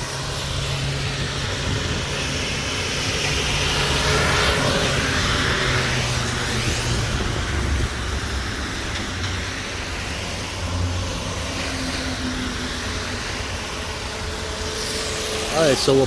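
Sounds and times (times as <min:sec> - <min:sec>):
passing vehicles rumbling: 0:00.0 - 0:16.0.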